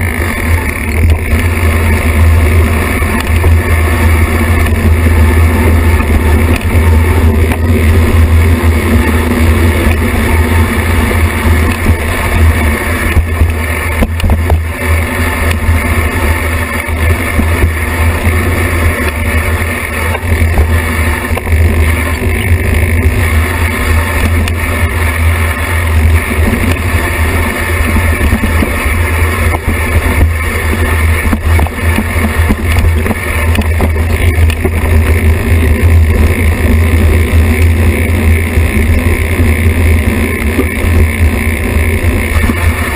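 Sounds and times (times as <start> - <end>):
bike tyre rattle on dirt trail: 0.0 - 42.9.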